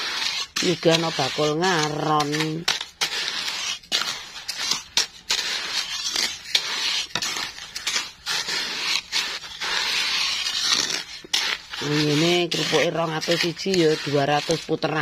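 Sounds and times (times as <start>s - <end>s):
spatula scraping sand in a pot: 0.0s - 15.0s.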